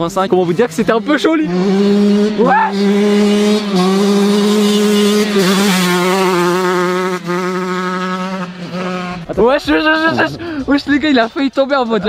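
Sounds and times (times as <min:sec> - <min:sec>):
motocross engine at high revs: 0:00.0 - 0:11.1.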